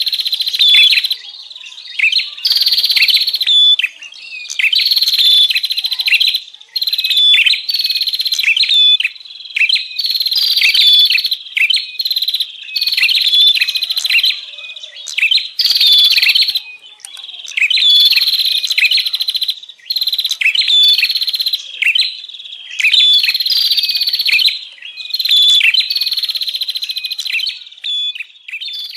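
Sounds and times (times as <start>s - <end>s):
birds chattering: 0.0s - 28.9s.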